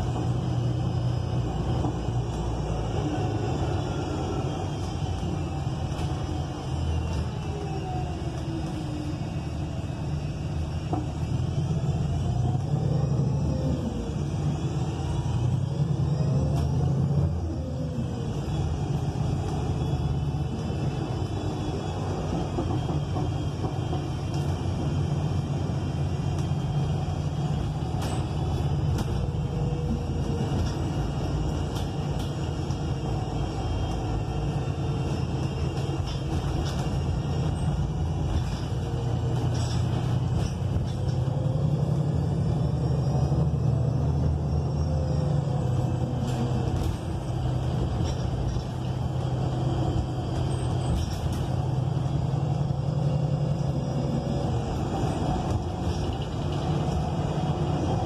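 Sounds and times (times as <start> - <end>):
bus engine low drone: 0.0 - 58.0.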